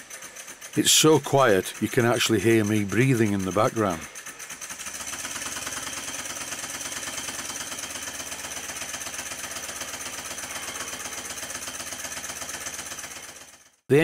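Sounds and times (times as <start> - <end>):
model steam engine exhaust beat: 0.0 - 14.0.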